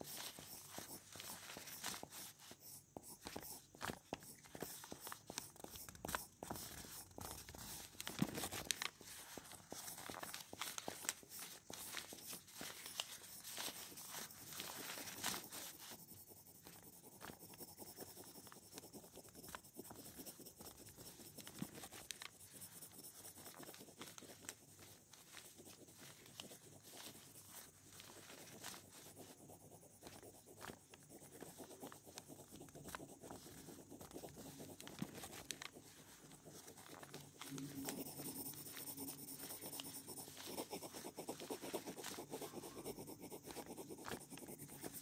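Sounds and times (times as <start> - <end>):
pen ticks: 0.0 - 24.6, 28.1 - 45.0
pen scratching on paper: 0.0 - 45.0.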